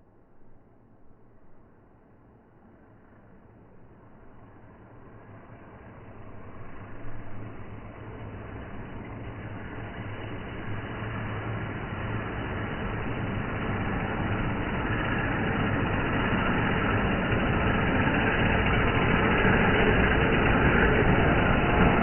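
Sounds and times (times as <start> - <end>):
train engine rumbling: 4.0 - 22.0.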